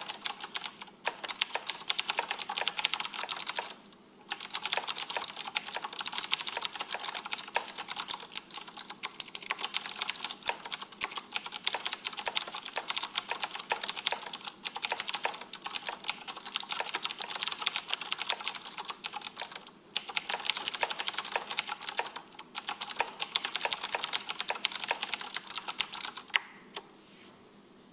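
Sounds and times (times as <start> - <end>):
mechanical keyboard typing: 0.0 - 26.4.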